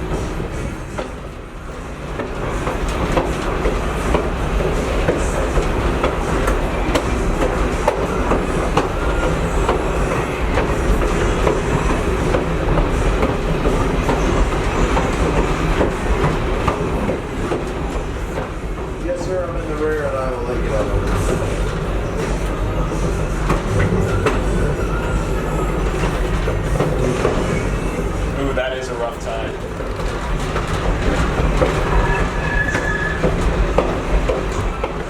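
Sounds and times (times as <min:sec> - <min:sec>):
train rumbling: 0:00.0 - 0:35.0
wheels clicking over rail joints: 0:02.0 - 0:35.0.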